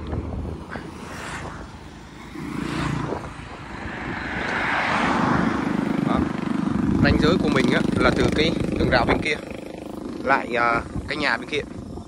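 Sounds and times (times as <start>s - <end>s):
vehicle passing with tyre noise: 0.0s - 12.0s.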